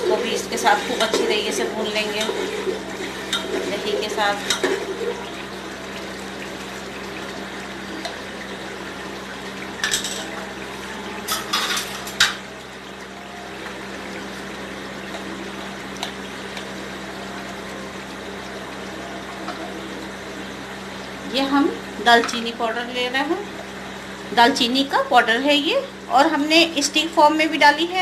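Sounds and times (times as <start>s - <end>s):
onion masala sizzling in pot: 0.0s - 27.9s.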